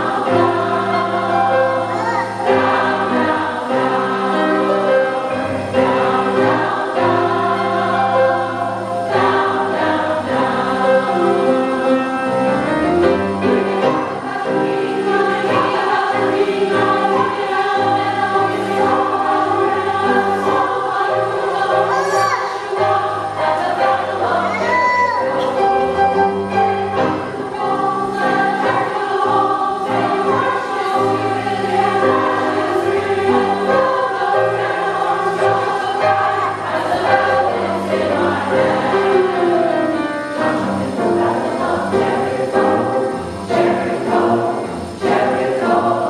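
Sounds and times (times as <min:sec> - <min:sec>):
piano accompaniment: 0:00.0 - 0:46.0
women's chorus singing: 0:00.0 - 0:46.0.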